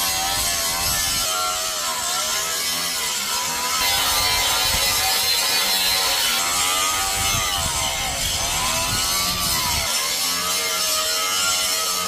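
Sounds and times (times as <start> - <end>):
angle grinder motor whine: 0.0 - 12.0
grinding disc hissing on steel: 0.0 - 12.0.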